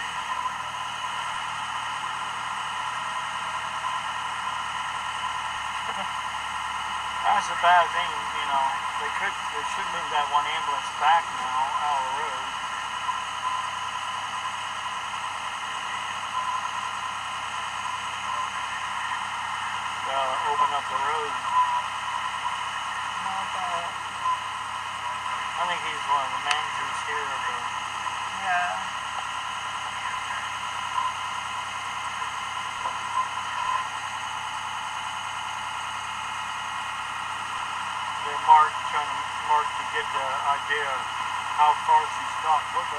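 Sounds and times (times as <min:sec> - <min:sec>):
faint hum: 0:00.0 - 0:42.9.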